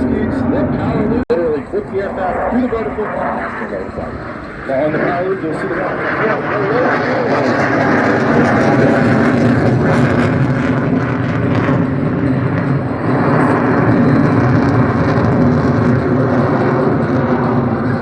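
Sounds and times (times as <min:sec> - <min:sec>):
jet engine noise: 0:00.0 - 0:18.0.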